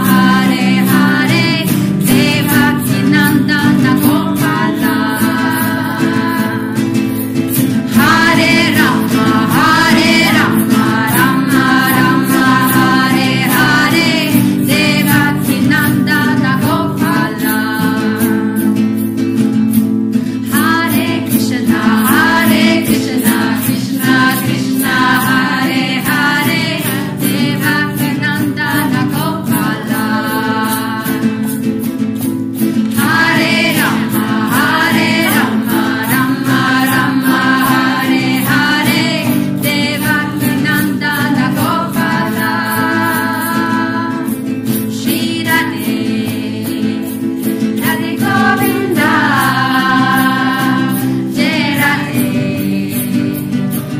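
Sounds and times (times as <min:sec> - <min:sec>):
group singing: 0:00.0 - 0:19.3, 0:20.2 - 0:31.8, 0:32.6 - 0:53.9
steady percussive beat: 0:00.0 - 0:43.6.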